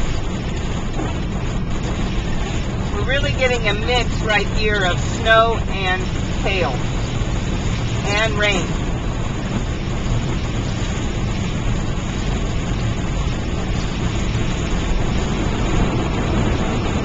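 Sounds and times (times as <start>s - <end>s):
hail and rain striking car: 0.0s - 17.0s
road and engine rumble: 0.0s - 17.0s.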